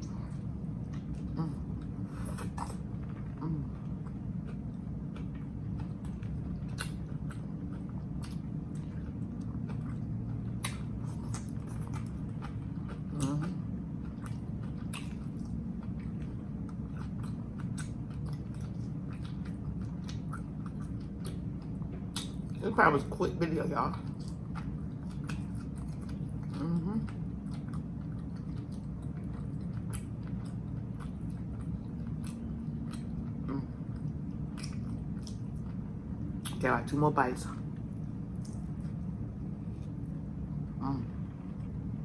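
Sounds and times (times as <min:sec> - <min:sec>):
person chewing: 0:00.0 - 0:22.6, 0:24.0 - 0:36.6, 0:37.7 - 0:40.3
steady low hum: 0:00.0 - 0:42.0.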